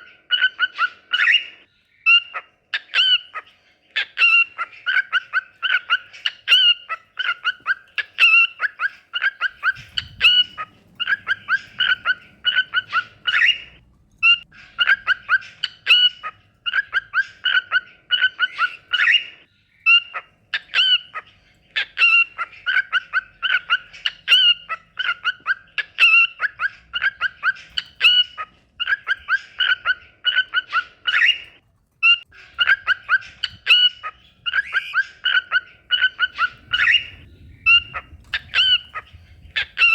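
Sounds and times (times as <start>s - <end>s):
cockatiel chirping and whistling: 4.2s - 21.2s, 21.8s - 39.0s.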